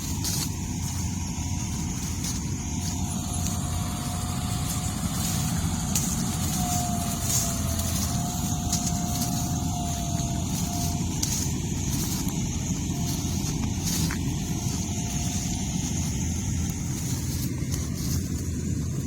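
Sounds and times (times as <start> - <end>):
combine harvester engine rumble: 0.0 - 19.0
thin wavering whine: 0.0 - 19.0.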